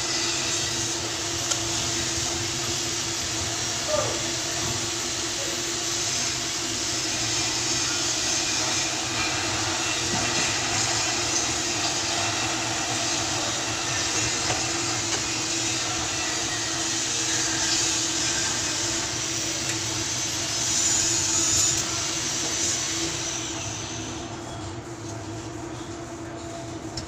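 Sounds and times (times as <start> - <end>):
machine drone with low hum: 0.0 - 27.0.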